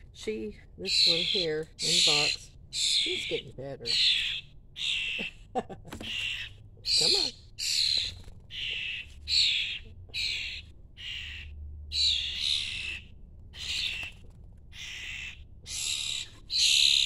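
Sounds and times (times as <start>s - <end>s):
fledgling birds hissing begging calls: 0.9s - 5.3s, 6.1s - 14.1s, 14.8s - 17.0s.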